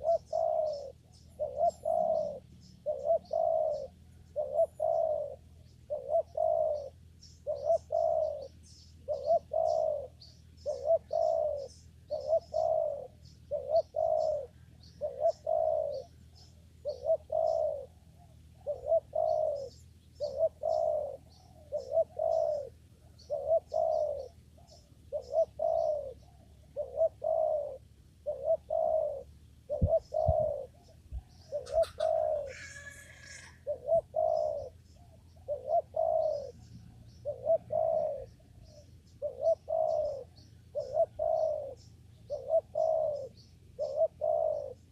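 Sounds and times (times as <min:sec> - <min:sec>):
dove cooing: 0:00.0 - 0:44.9
small bird chirping: 0:00.0 - 0:44.9.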